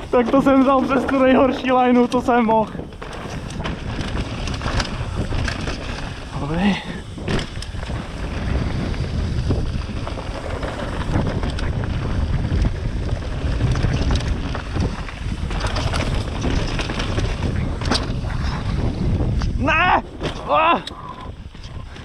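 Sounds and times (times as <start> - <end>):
bike rattling over bumps: 0.0 - 22.0
bike tyres on rocky trail: 0.0 - 22.0
wind on the microphone: 0.0 - 22.0.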